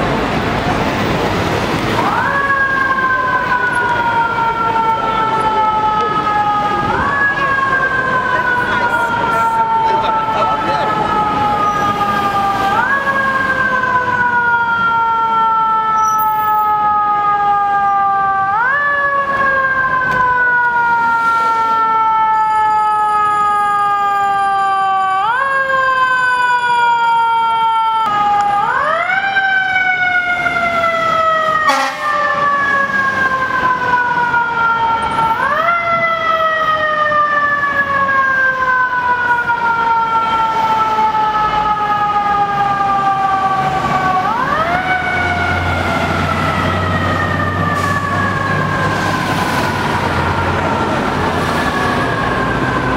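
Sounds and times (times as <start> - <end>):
city traffic: 0.0 - 52.9
mechanical siren wailing: 2.0 - 52.9.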